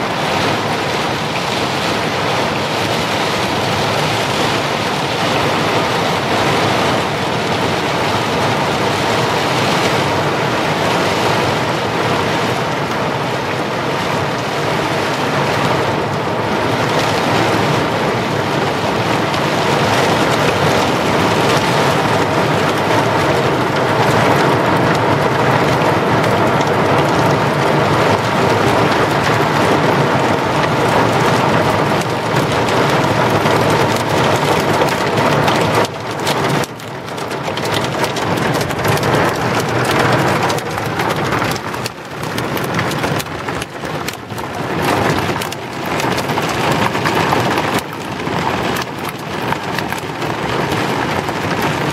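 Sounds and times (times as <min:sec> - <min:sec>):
torrential rain pouring: 0:00.0 - 0:51.9.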